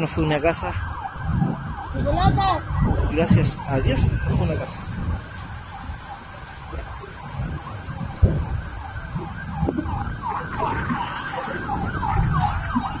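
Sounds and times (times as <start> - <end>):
emergency siren yelping: 0.0 - 13.0
low rumble: 0.8 - 13.0.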